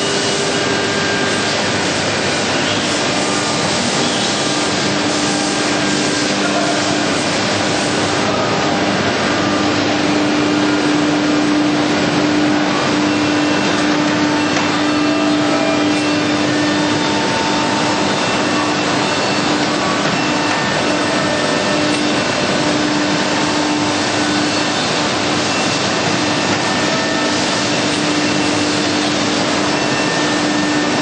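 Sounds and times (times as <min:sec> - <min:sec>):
sanding machine noise: 0:00.0 - 0:31.0.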